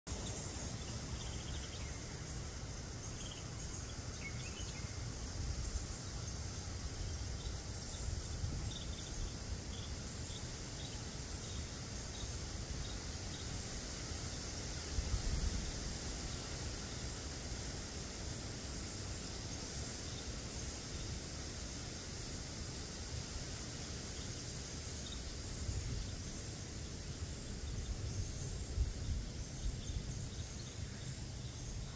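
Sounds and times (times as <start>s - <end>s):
high insect drone: 0.1s - 31.9s.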